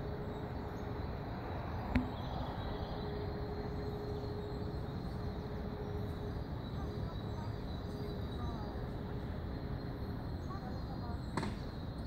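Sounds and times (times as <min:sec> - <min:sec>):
distant air-raid siren: 0:00.0 - 0:12.0
outdoor background noise: 0:00.0 - 0:12.0.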